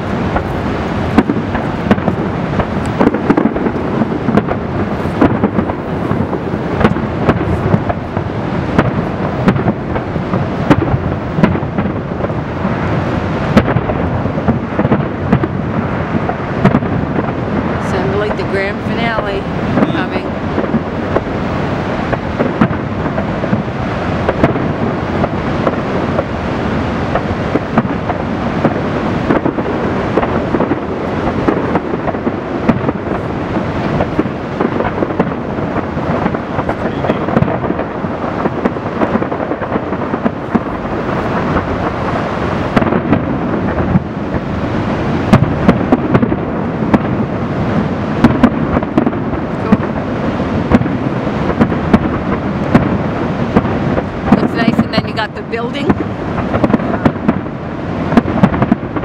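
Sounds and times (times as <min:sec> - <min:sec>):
fireworks booming and crackling: 0:00.0 - 0:59.0
rushing water: 0:00.0 - 0:59.0
sharp firework cracks: 0:00.0 - 0:59.0.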